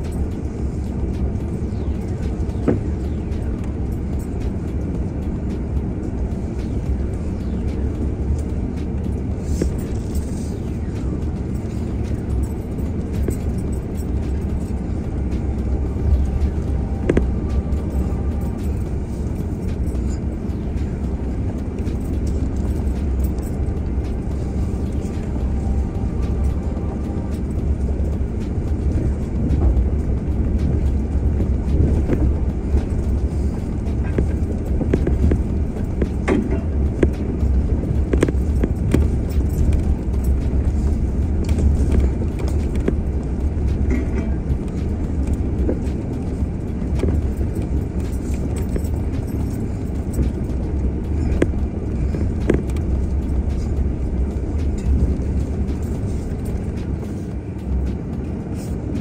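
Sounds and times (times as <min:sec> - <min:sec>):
off-road vehicle engine and tyres: 0:00.0 - 0:59.0.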